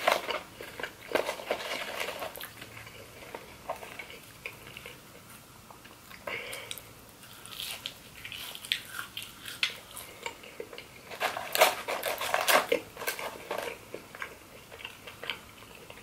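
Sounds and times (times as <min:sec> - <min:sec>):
close-miked chewing: 0:01.8 - 0:11.2, 0:12.5 - 0:16.0.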